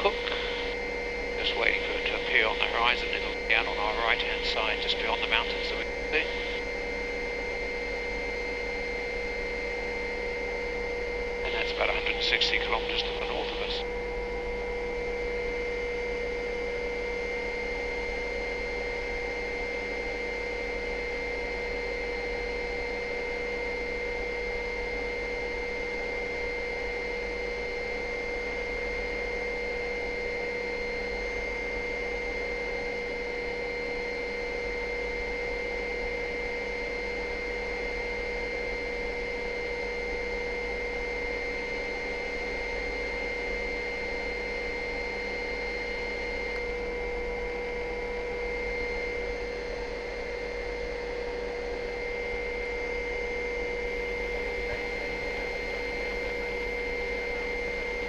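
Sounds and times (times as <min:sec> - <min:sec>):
held whining tones: 0:00.0 - 0:58.0.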